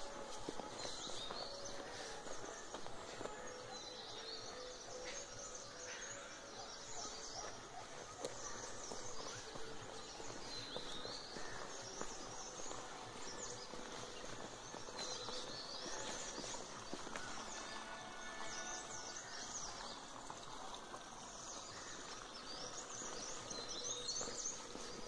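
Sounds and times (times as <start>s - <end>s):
footsteps on dry leaves: 0.0s - 4.4s, 7.0s - 25.0s
birds chirping: 0.0s - 25.0s.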